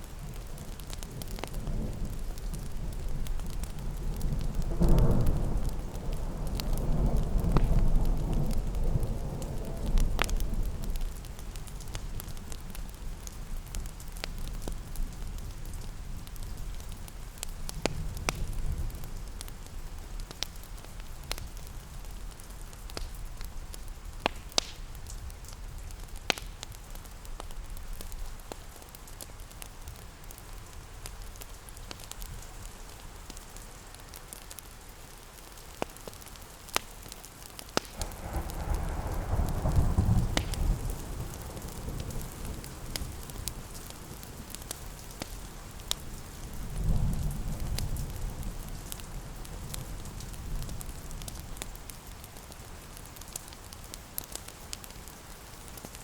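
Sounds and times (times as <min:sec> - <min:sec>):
rain pattering: 0:00.0 - 0:56.0
wood fire crackling and popping: 0:00.0 - 0:56.0.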